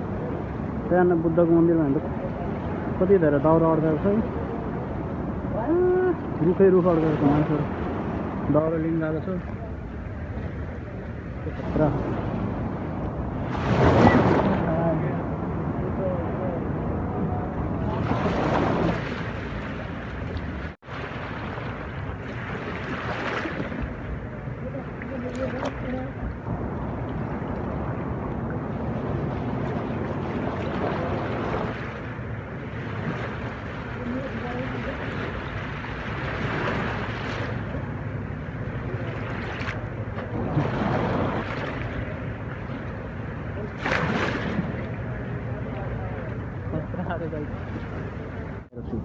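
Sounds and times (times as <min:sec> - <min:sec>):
rushing floodwater: 0:00.0 - 0:49.0
wind buffeting microphone: 0:00.0 - 0:49.0.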